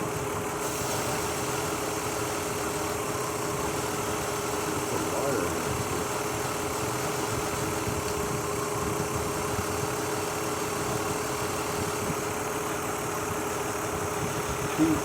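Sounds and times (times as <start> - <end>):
car engine idling roughly: 0.0 - 15.0.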